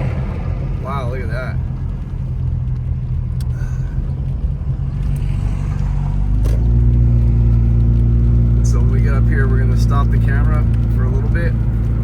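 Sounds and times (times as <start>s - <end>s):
car engine humming: 0.0s - 12.0s
road rumble inside car: 0.0s - 12.0s.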